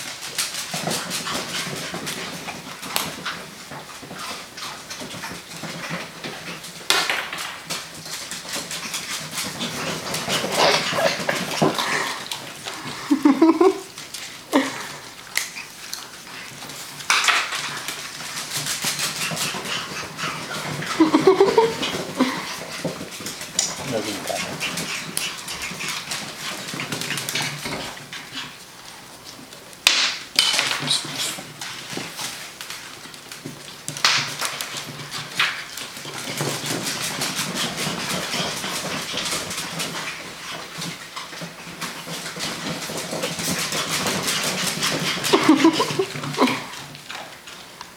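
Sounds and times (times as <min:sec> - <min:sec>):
puppy claws clicking on hard floor: 0:00.0 - 0:47.9.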